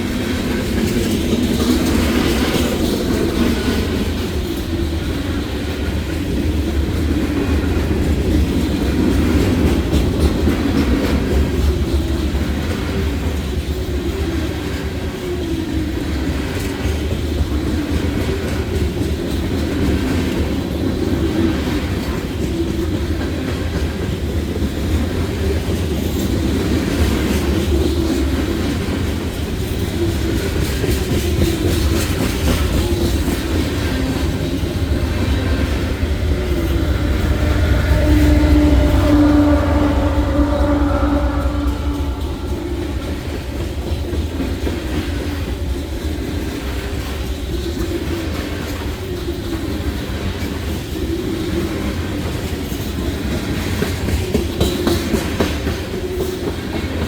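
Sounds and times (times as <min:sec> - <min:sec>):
steel wheels rumbling on rails: 0:00.0 - 0:57.0.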